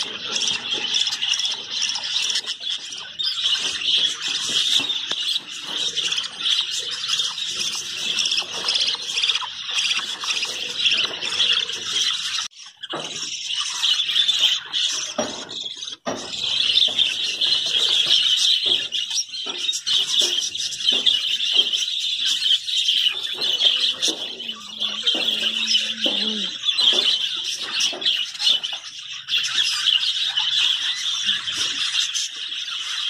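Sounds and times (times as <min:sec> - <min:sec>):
budgerigars chirping and warbling: 0:00.0 - 0:33.0.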